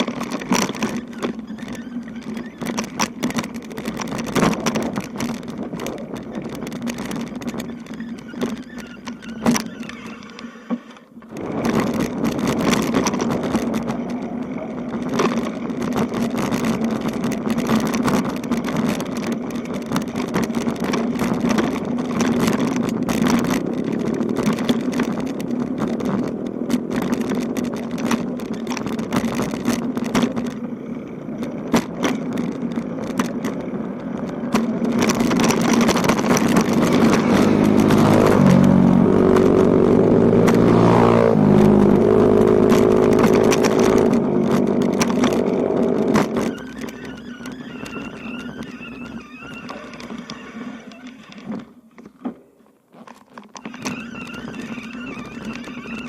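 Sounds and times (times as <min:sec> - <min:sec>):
clicks and rattles: 0:00.0 - 0:30.7, 0:31.4 - 0:56.0
bicycle riding on rough road: 0:00.0 - 0:56.0.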